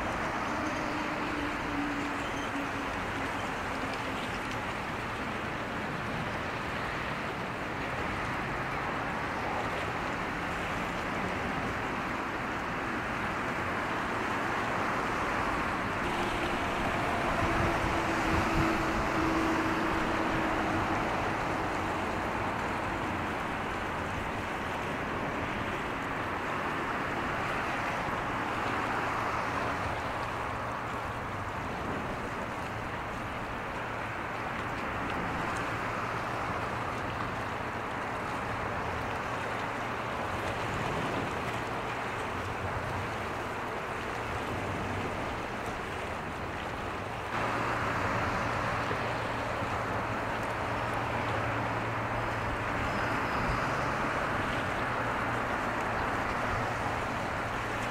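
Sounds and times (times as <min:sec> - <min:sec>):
waves: 0:00.0 - 0:57.9
wind: 0:00.0 - 0:57.9.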